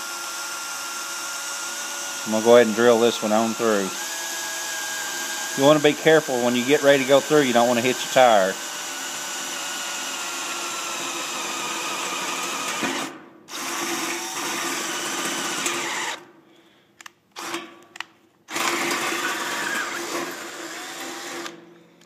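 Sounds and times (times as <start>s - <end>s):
electric drill boring through metal: 0.0s - 16.2s, 18.5s - 21.6s.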